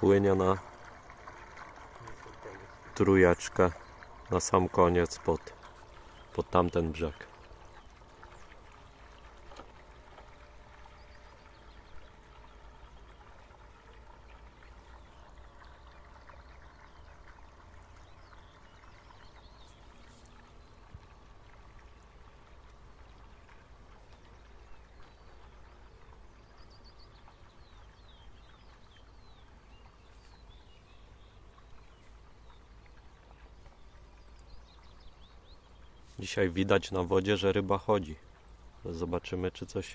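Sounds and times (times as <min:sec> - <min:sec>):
low steady rumble: 0:00.0 - 0:39.2
faint outdoor hiss: 0:00.0 - 0:39.9.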